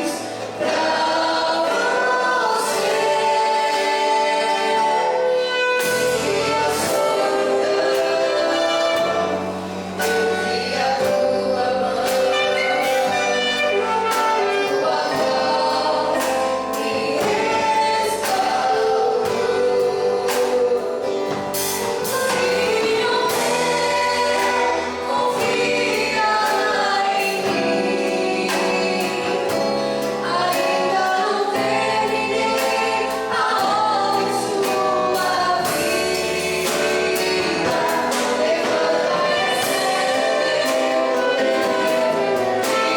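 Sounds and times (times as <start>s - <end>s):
worship song with band: 0.0s - 42.9s.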